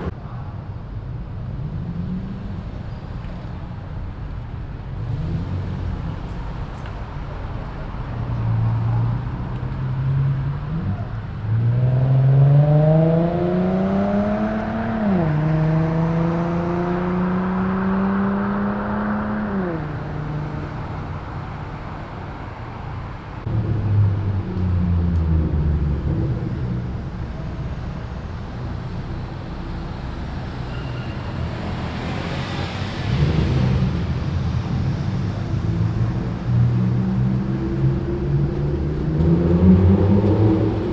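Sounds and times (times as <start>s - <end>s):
passing car engines: 0.0s - 40.9s.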